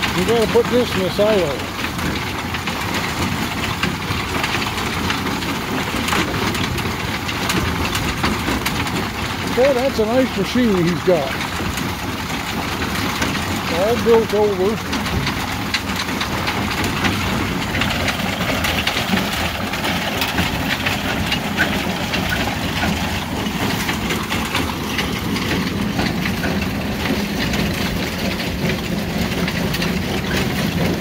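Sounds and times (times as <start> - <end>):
machinery engine running: 0.0 - 31.0
rattle of small clicks: 0.0 - 31.0.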